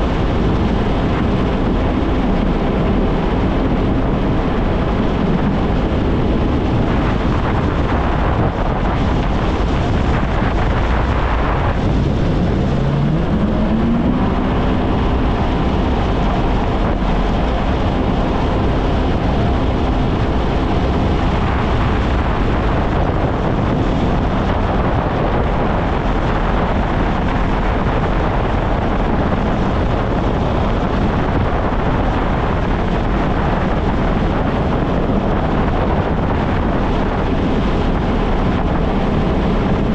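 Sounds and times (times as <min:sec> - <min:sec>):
jet ski engine running: 0:00.0 - 0:39.9
wind buffeting microphone: 0:00.0 - 0:39.9.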